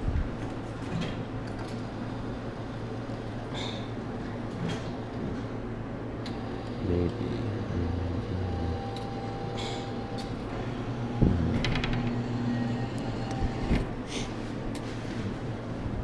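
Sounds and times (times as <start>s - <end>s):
hum of arcade machines: 0.0s - 16.0s.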